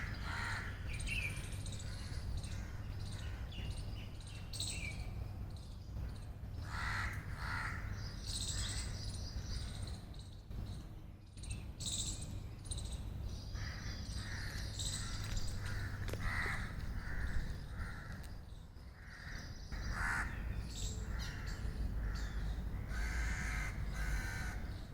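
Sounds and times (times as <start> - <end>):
birds calling and chirping: 0.0 - 24.9
steady low rumble: 0.0 - 24.9.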